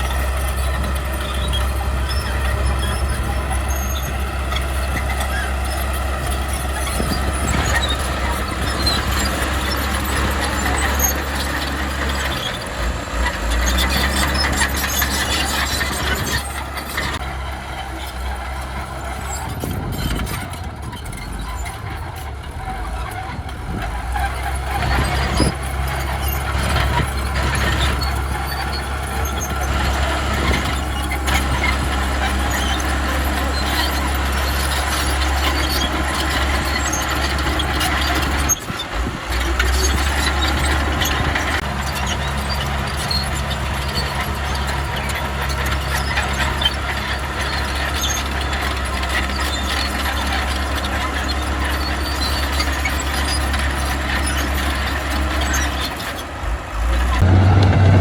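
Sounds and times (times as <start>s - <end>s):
diesel engine droning: 0.0s - 58.0s
machinery squealing: 0.0s - 58.0s.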